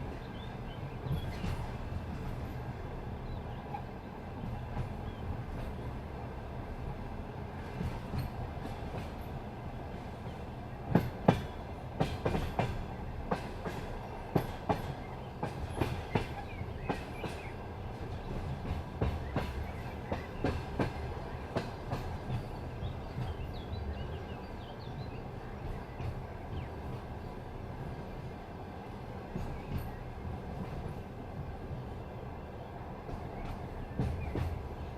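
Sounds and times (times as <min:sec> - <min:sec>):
train rumbling on rails: 0:00.0 - 0:34.9.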